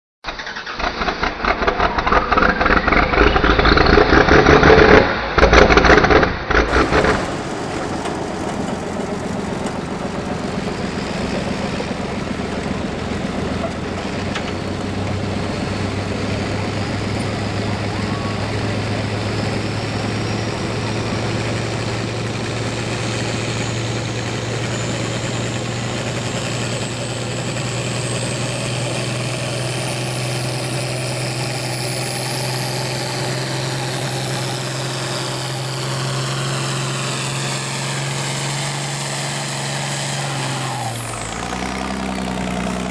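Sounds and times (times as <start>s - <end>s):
tractor diesel engine under load: 0.2s - 42.9s.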